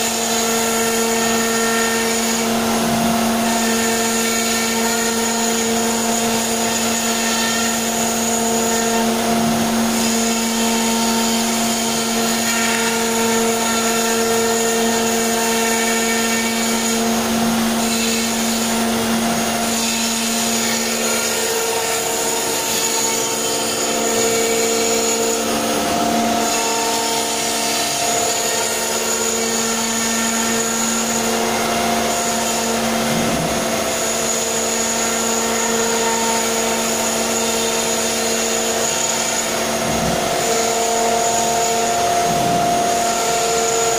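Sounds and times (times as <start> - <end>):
bit rasping into wood: 0.0 - 43.9
router spindle whining: 0.0 - 43.9.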